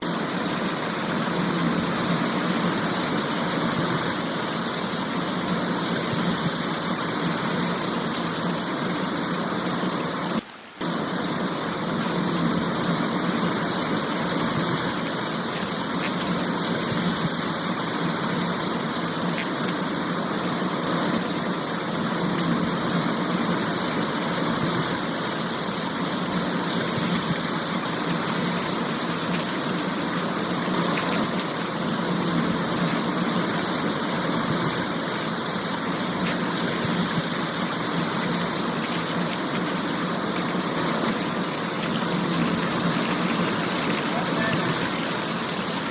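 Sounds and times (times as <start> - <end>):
rainwater runoff rushing: 0.0 - 45.9.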